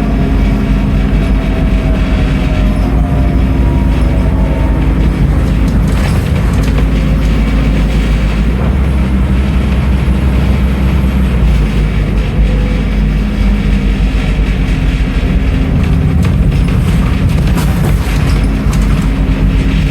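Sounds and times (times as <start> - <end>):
bus diesel engine running: 0.0 - 19.9.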